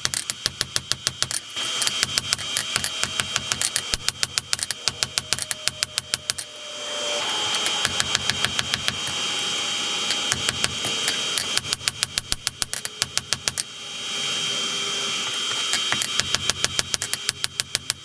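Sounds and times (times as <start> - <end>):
hammer strikes on steel: 0.0 - 13.8, 15.2 - 18.0.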